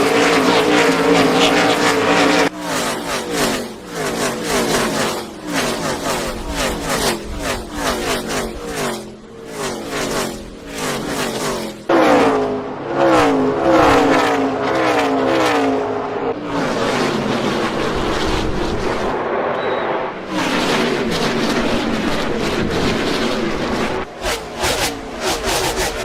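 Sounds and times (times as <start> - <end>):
race car engine at speed: 0.0 - 26.0.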